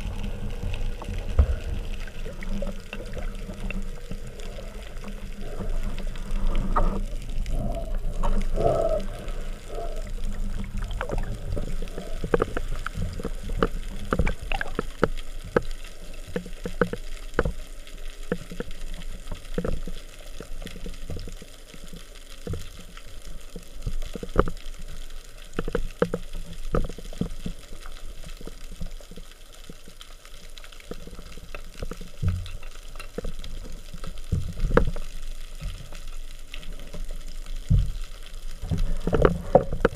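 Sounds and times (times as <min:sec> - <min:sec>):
underwater rush: 0:00.0 - 0:39.9.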